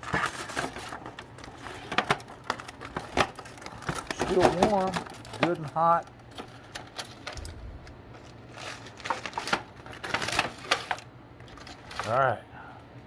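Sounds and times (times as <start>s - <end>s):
aluminum foil crinkling: 0.0s - 12.4s.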